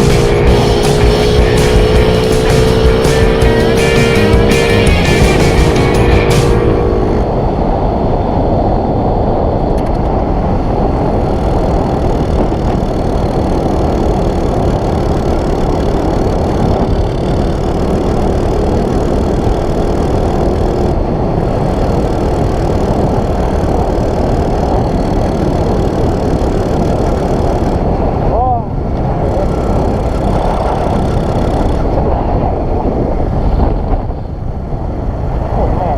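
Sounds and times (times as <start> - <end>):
motorcycle engine running: 0.0 - 8.8, 9.7 - 35.9.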